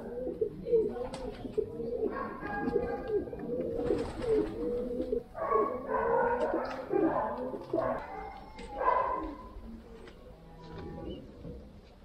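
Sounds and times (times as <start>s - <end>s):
pigeons cooing: 0.0s - 9.5s, 10.8s - 11.8s.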